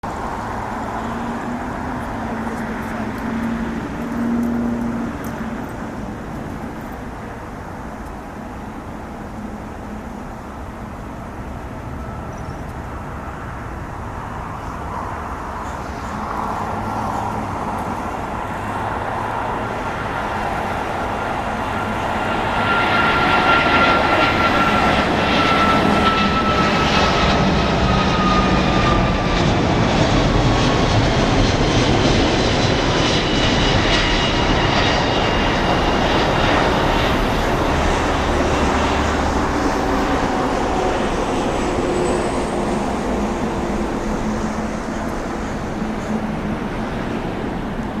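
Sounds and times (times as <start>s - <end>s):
jet engine roar: 0.0s - 48.0s
jet engine whine: 0.0s - 48.0s.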